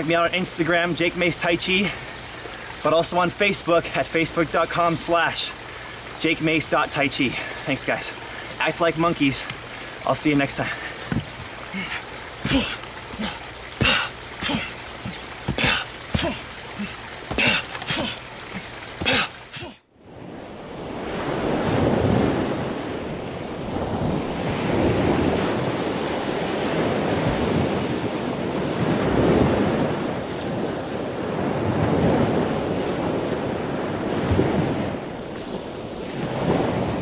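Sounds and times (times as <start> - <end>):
ocean surf rushing: 0.0 - 37.0.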